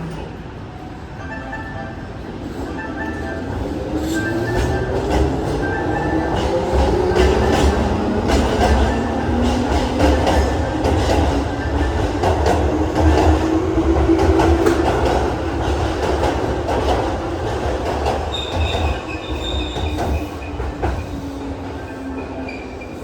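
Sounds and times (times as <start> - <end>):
train rumble: 0.0 - 23.0
wheels clickety-clack over rail joints: 4.0 - 23.0.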